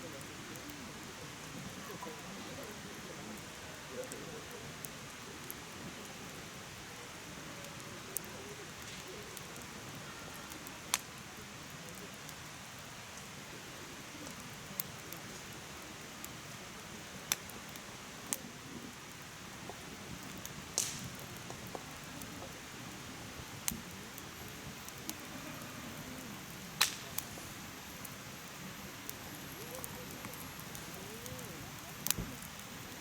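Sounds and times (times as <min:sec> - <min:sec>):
firewood burning with hiss: 0:00.0 - 0:33.0
crackling pops of fire: 0:00.1 - 0:33.0.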